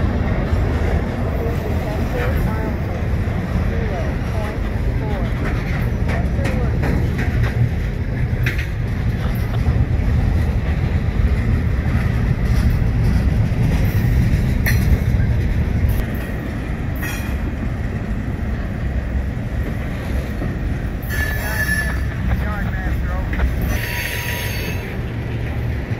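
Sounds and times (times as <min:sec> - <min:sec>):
rumble of wheels on track: 0:00.0 - 0:25.9
wheels clacking over rail joints: 0:00.0 - 0:25.9.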